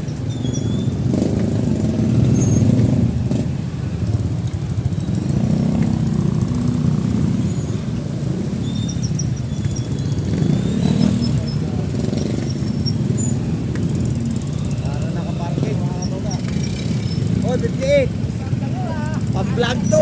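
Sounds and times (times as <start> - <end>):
motorcycle engine low rumble: 0.0 - 20.0
road traffic: 0.0 - 20.0.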